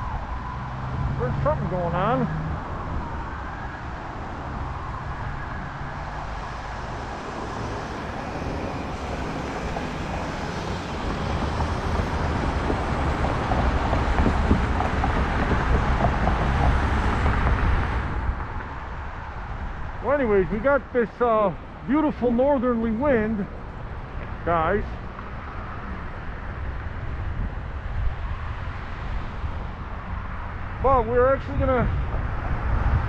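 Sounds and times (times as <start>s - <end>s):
road traffic: 0.0s - 33.0s
wind rumbling on microphone: 0.0s - 33.0s.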